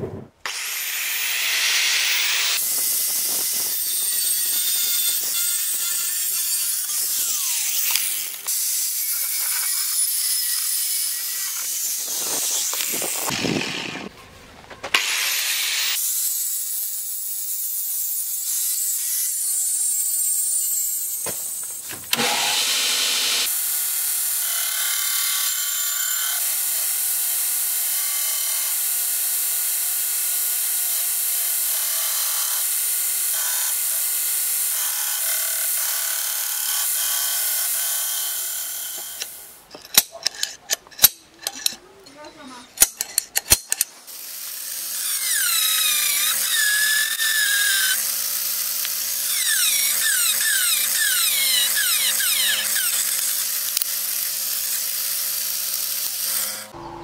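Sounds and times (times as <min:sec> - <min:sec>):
belt grinder grinding steel: 0:00.4 - 0:14.1, 0:15.0 - 0:56.8.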